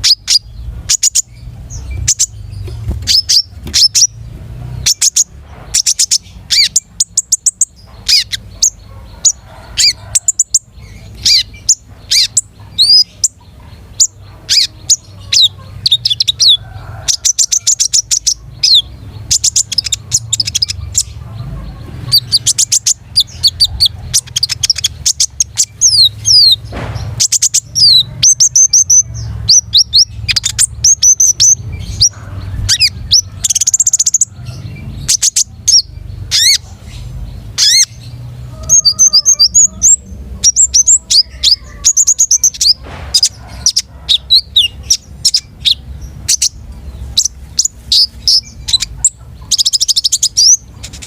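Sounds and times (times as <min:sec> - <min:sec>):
songbird chirping and whistling: 0:00.0 - 0:51.0.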